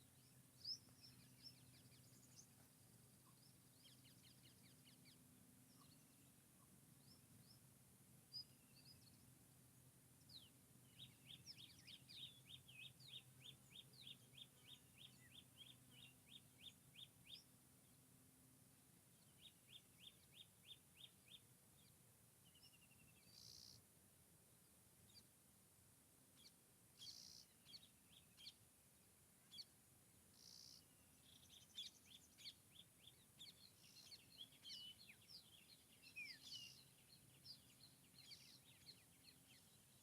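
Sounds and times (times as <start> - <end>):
faint steady low hum: 0.0 - 40.0.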